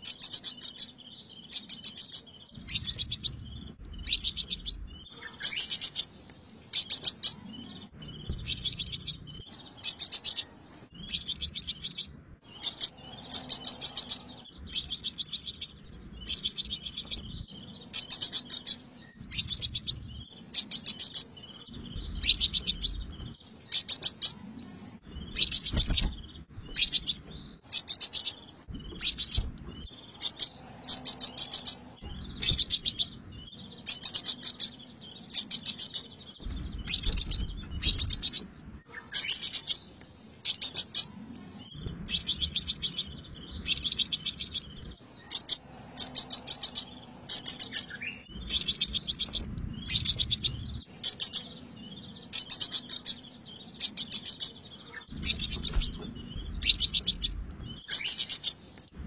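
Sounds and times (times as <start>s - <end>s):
bird singing ticking trills: 0.0s - 59.0s.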